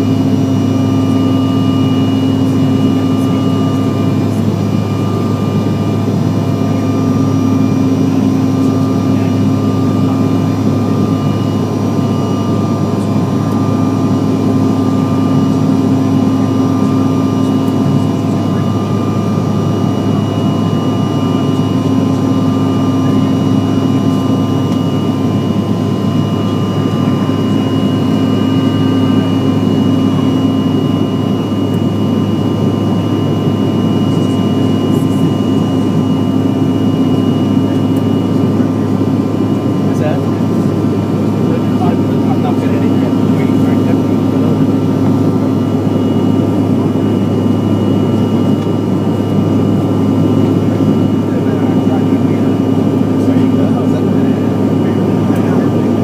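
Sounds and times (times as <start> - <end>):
low hum: 0.0 - 55.9
high whine: 0.0 - 56.0
jet engines roaring: 0.0 - 56.0.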